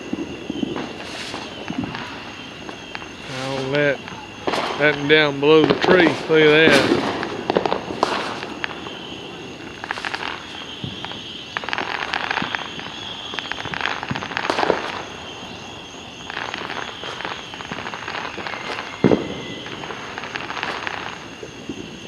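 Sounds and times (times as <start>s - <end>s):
firework bangs: 0.0s - 22.0s
fireworks crackling: 0.0s - 22.0s.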